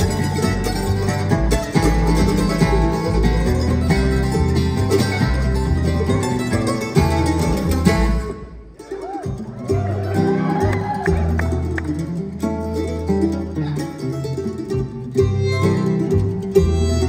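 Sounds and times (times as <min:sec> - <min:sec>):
acoustic guitar: 0:00.0 - 0:17.0
fiddle: 0:00.0 - 0:17.0
plucked mandolin: 0:00.0 - 0:17.0
upright bass: 0:00.0 - 0:17.0.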